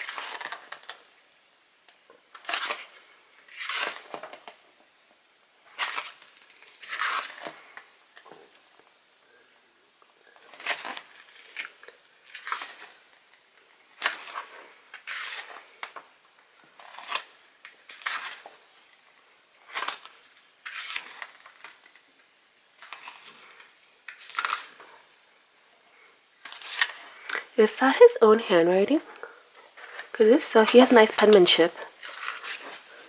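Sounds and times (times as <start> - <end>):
pages turning rustle: 0.0 - 1.1, 2.0 - 4.7, 5.6 - 8.9, 10.2 - 25.2, 26.4 - 27.6, 29.5 - 33.0.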